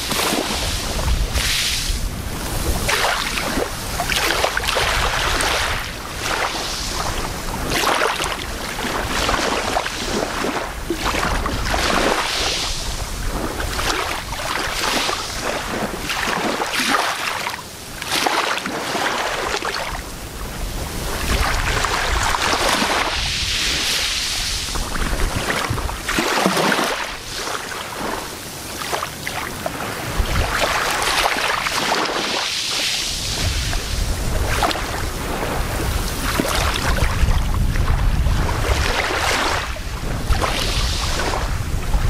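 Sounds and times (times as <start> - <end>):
small waves lapping on sand: 0.0 - 42.0
wind rumbling on microphone: 0.0 - 42.0.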